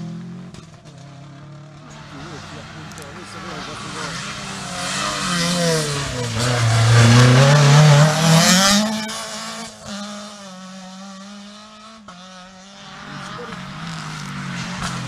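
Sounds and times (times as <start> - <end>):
distant car engine drone: 0.0 - 15.0
rally car engine revving: 0.0 - 15.0.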